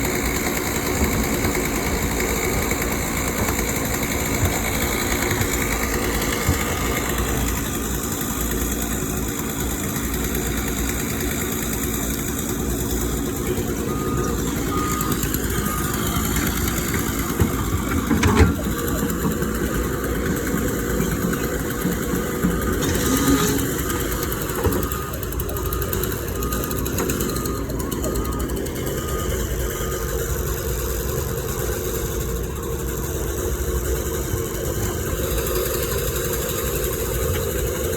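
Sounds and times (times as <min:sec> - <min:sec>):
construction machinery engine running: 0:00.0 - 0:37.9.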